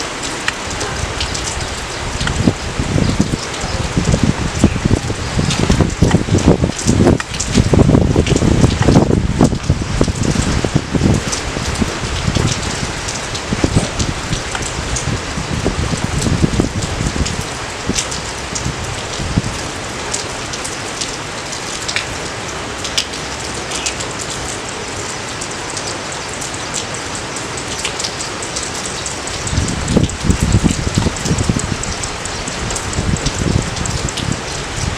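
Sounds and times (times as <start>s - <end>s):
sharp raindrop hits: 0.0s - 34.9s
steady rain falling: 0.0s - 34.9s.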